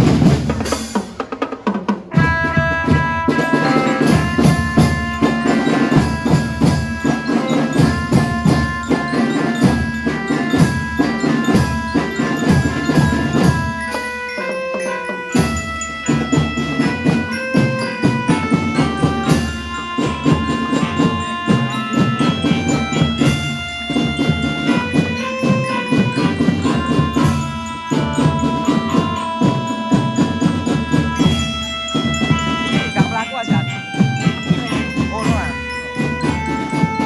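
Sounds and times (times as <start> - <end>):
drum strokes: 0.0 - 37.0
struck keyed instruments melody: 0.0 - 37.0.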